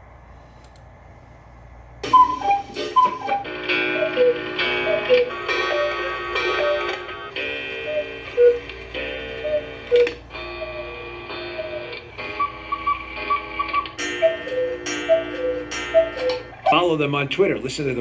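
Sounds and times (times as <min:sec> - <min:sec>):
clock-like ticking: 0:02.0 - 0:16.8.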